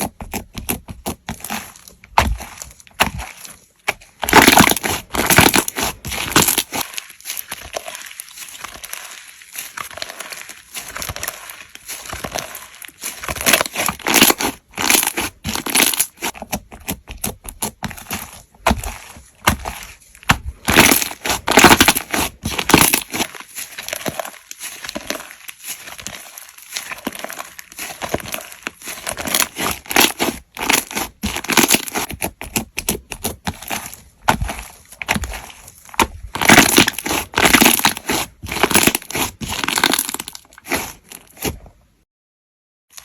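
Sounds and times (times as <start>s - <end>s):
slime crackling and crunching: 0.0s - 41.7s.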